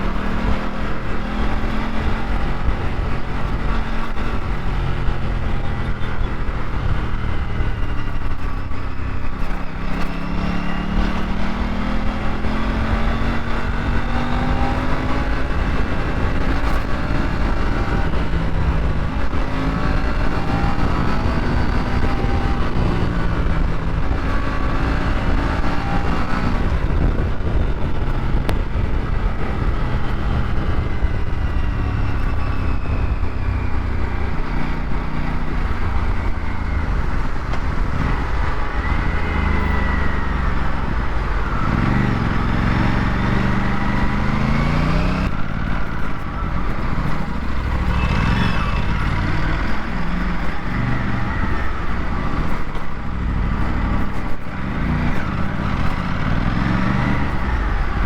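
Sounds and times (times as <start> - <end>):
motorcycle engine running: 0.0 - 58.0
traffic: 0.0 - 58.0
wind rumble on microphone: 0.0 - 58.0.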